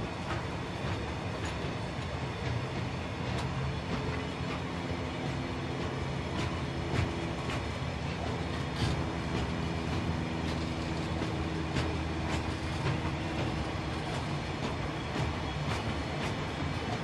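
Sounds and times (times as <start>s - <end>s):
train wagons rumbling: 0.0s - 17.0s
wheel clicks over rail joints: 0.2s - 17.0s.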